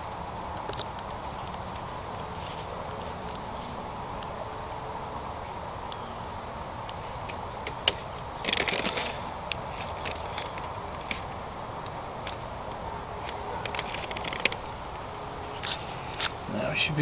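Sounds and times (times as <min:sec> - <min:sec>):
background hiss: 0:00.0 - 0:17.0
crackling rustle: 0:00.0 - 0:17.0
faint high whine: 0:00.0 - 0:17.0.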